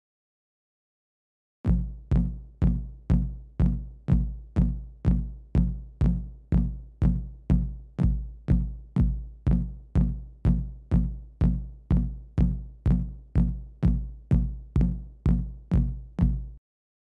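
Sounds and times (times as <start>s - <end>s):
electronic kick drum beat: 1.7s - 16.6s.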